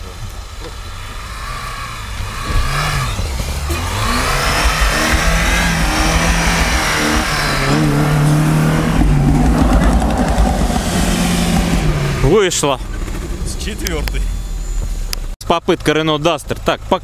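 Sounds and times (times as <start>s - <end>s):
tyres spinning in snow: 0.0s - 15.0s
car engine revving hard: 0.0s - 15.4s.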